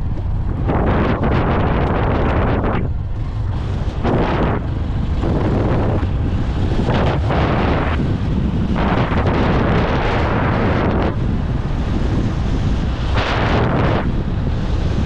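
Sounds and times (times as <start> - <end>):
motorcycle low rumble: 0.0 - 15.0
wind buffeting microphone: 0.0 - 15.0.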